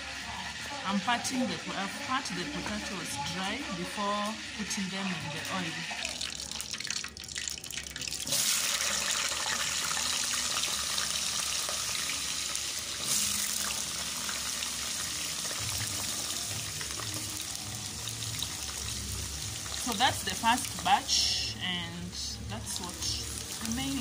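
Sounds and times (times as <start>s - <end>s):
potatoes sizzling in hot oil: 0.0s - 24.0s.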